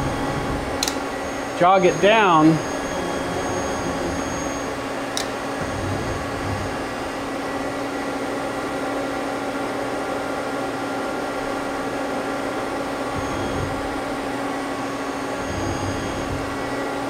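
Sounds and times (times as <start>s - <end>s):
lathe machinery hum: 0.0s - 17.0s.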